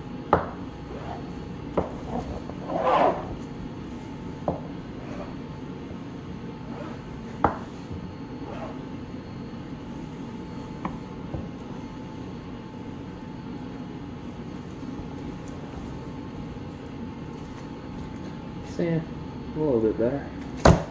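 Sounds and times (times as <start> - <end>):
steady background hum: 0.0 - 20.9.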